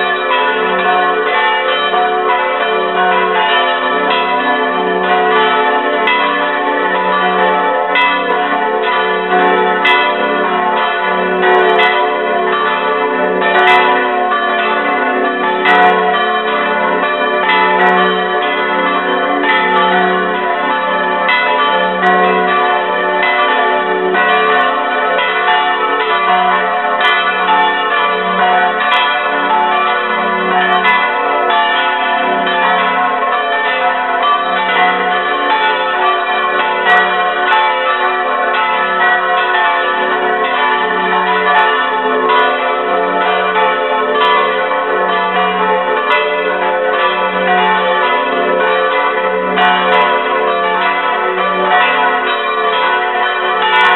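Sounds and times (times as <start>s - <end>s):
church bells pealing: 0.0s - 53.9s.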